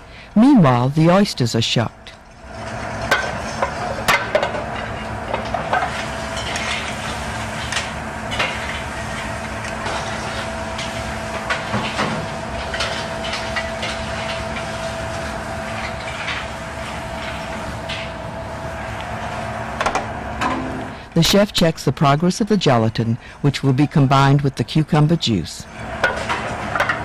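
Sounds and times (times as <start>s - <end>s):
kitchen hum with faint whine: 0.0s - 27.0s.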